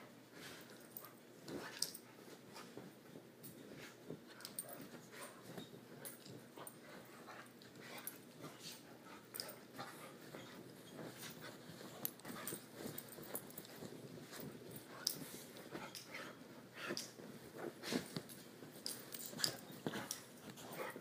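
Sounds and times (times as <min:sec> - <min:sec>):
blankets rustling and scratching: 0:00.2 - 0:21.0.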